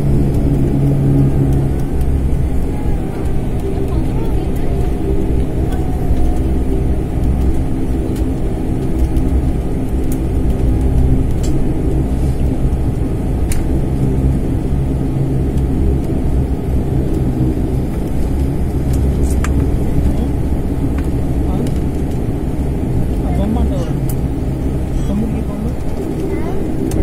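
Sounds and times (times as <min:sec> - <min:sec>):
propeller engine droning in cabin: 0:00.0 - 0:27.0.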